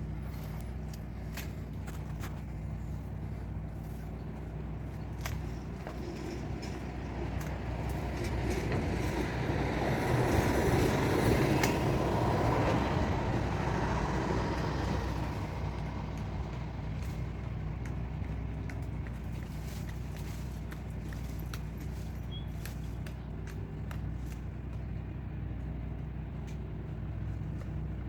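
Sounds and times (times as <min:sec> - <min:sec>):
low engine hum: 0:00.0 - 0:28.0
motor vehicle passing by: 0:00.0 - 0:28.0.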